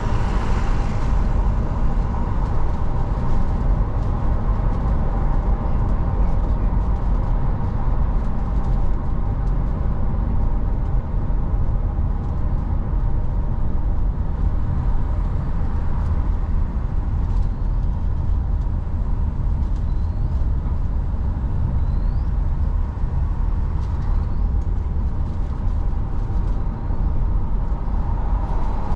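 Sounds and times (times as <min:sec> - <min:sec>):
car engine and tyre rumble: 0:00.0 - 0:28.9.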